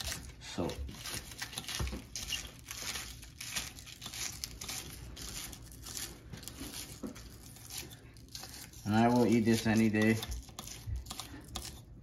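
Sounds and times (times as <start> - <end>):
crinkling and rustling handling: 0.0 - 12.0.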